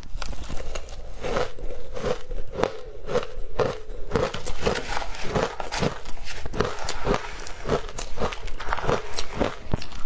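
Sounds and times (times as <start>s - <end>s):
chewing crunchy ice: 0.6s - 10.0s.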